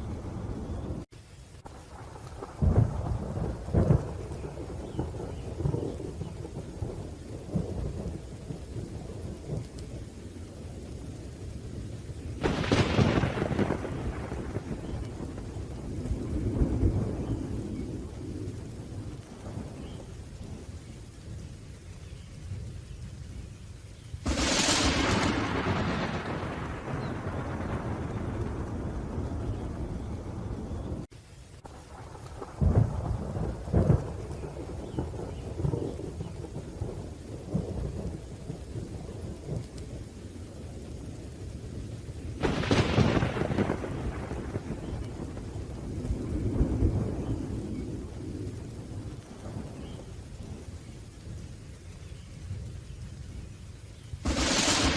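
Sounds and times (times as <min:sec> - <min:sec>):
thunder rumbling: 0:00.0 - 0:23.6, 0:24.2 - 0:54.9
steady rain: 0:00.0 - 0:54.9.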